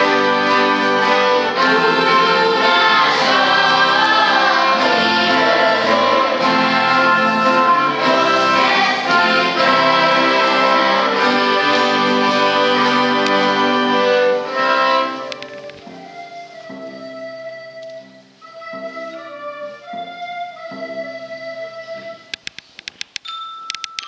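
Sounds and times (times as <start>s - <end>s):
guitar: 0.0s - 22.3s
fiddles playing a tune: 0.0s - 22.4s.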